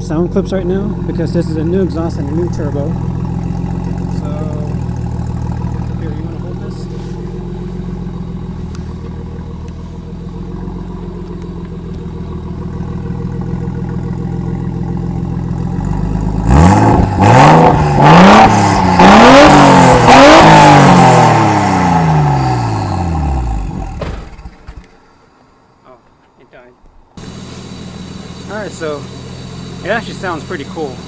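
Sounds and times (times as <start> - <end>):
car engine idling and revving: 0.0 - 25.7, 27.2 - 31.0.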